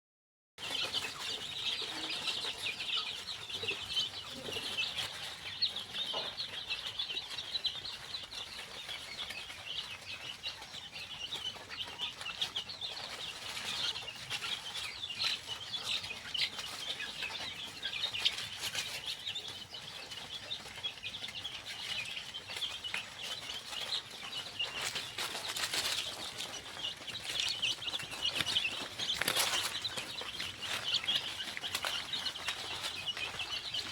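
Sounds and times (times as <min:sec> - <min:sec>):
chicks peeping: 0:00.6 - 0:33.9.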